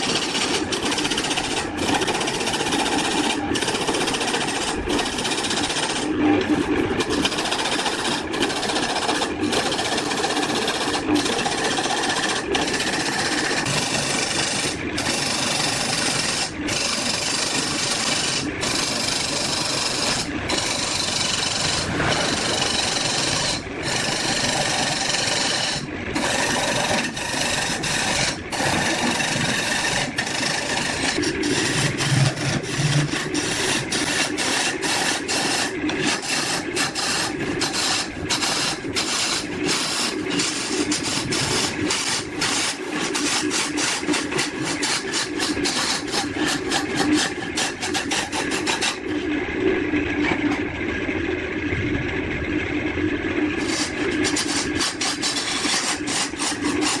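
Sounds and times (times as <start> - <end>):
tool scraping on wood: 0.0 - 49.3, 53.6 - 57.0.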